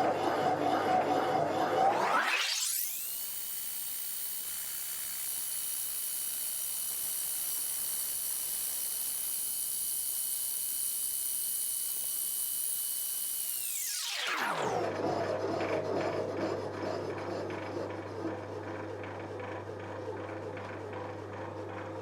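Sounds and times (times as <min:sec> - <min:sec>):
lathe motor whine: 0:00.0 - 0:03.4, 0:04.7 - 0:22.0.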